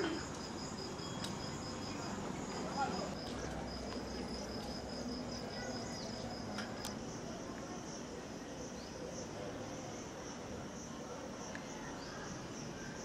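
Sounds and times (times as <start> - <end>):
insects chirring trill: 0.0 - 13.0
low background noise: 0.0 - 13.0.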